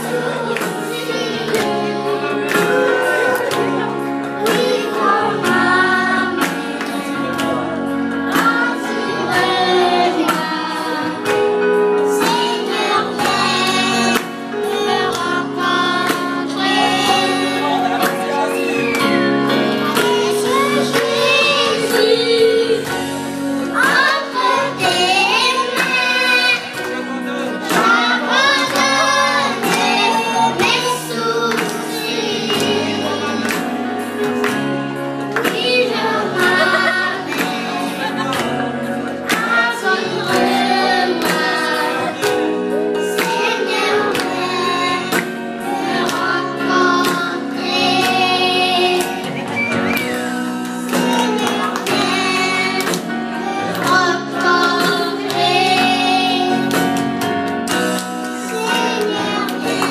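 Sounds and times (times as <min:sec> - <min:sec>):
children singing into microphones: 0:00.0 - 0:34.6, 0:35.3 - 0:57.2, 0:57.9 - 0:59.9.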